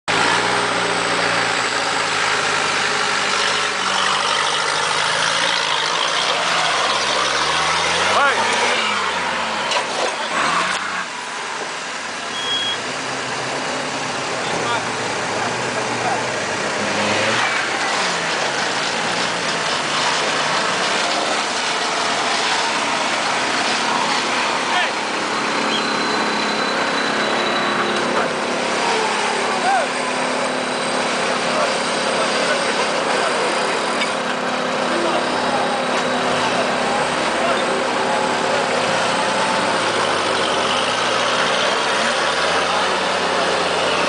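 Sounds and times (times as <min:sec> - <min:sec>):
off-road vehicle engine at low revs: 0:00.0 - 0:44.0.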